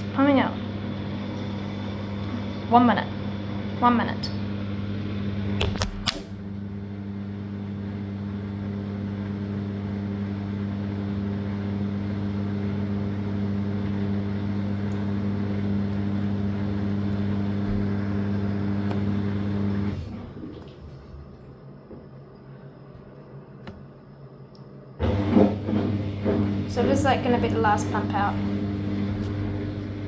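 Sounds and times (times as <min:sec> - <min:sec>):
washing machine drain pump humming: 0:00.0 - 0:30.0.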